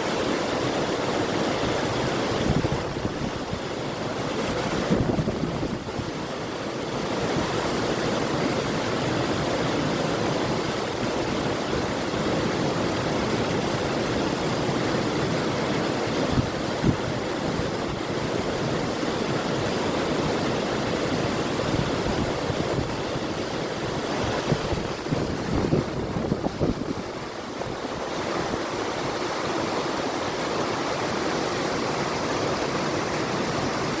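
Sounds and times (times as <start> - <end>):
river flowing: 0.0 - 34.0
water splashes: 0.0 - 34.0.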